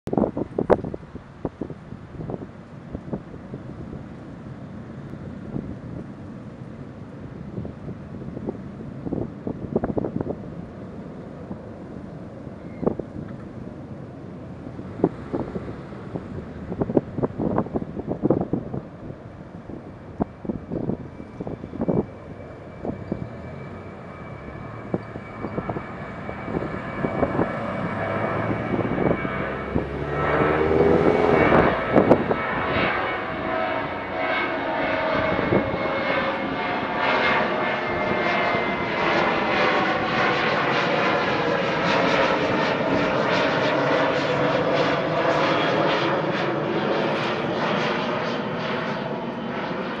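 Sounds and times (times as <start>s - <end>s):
jet engine roar: 0.1s - 50.0s.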